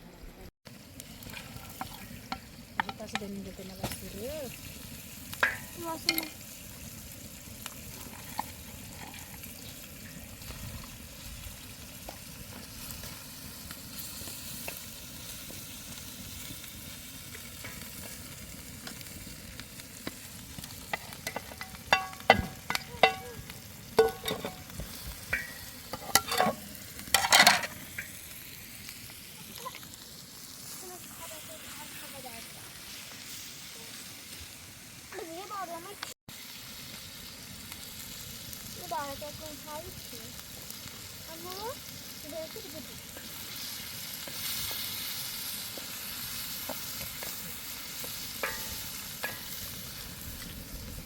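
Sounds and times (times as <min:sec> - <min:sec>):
food sizzling in a pan: 0:00.7 - 0:51.0.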